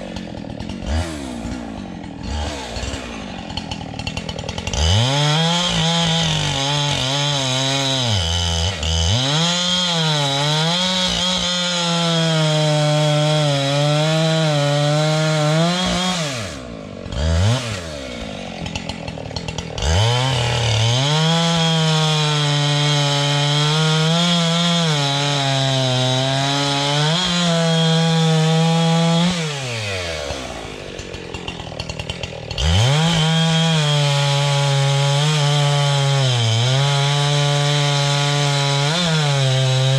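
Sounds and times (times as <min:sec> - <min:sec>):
chainsaw cutting logs: 0:00.0 - 0:39.9
chainsaw idling: 0:00.0 - 0:39.9.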